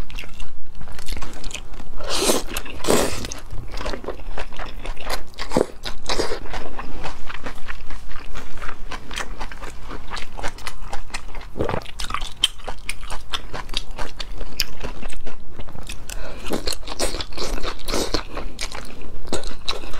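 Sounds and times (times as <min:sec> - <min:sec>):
chewing noodles: 0:00.0 - 0:19.9.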